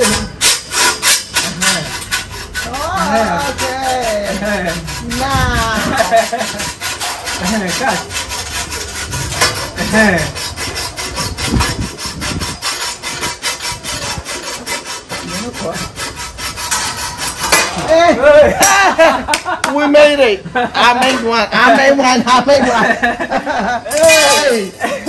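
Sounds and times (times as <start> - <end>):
hand tool rasping metal: 0.0 - 19.0, 20.8 - 25.0.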